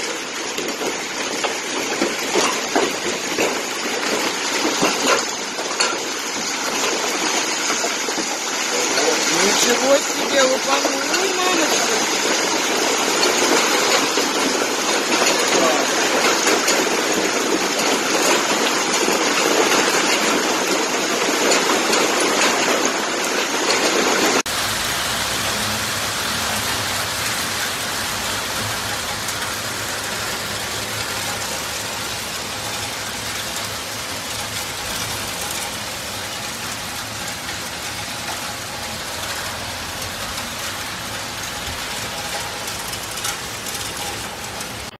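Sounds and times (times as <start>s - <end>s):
hail and rain pelting: 0.0s - 45.0s.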